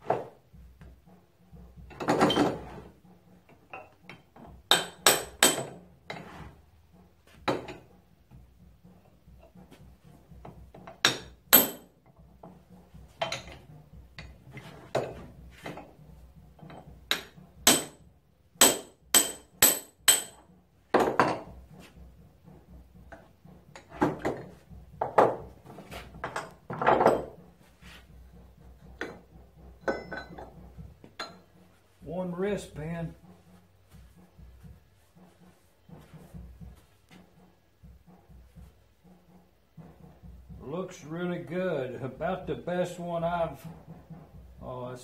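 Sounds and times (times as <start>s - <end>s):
metal parts knocking and rattling: 0.0s - 40.6s.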